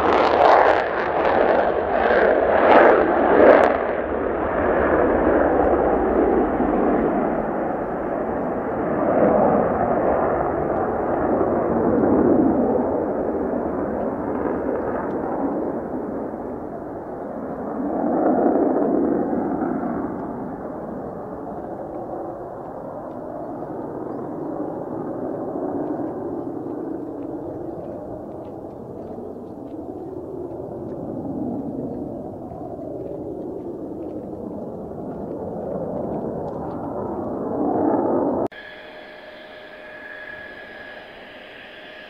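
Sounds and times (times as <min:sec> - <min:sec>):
jet engine roar: 0:00.0 - 0:42.0
sharp afterburner crackles: 0:00.0 - 0:42.0.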